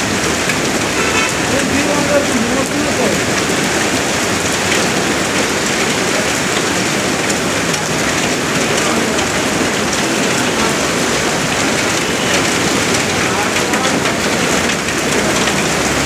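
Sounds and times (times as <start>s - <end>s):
hail pelting a windscreen: 0.0s - 16.0s.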